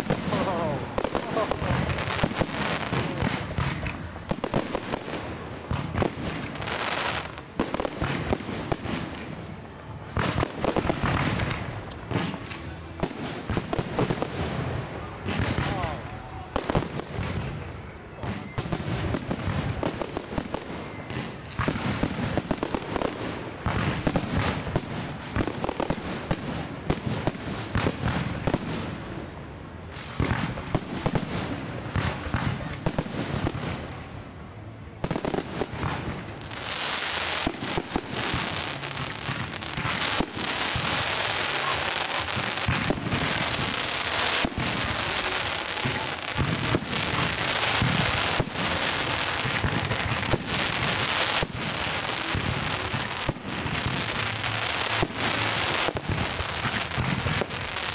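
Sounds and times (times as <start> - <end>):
fireworks bangs and pops: 0.0 - 57.9
fireworks crackling: 0.0 - 57.9.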